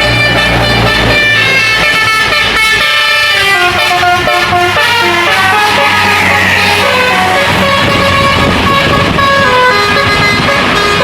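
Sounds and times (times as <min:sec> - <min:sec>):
bus engine rumble: 0:00.0 - 0:11.0
musical bus horn tune: 0:00.0 - 0:11.0.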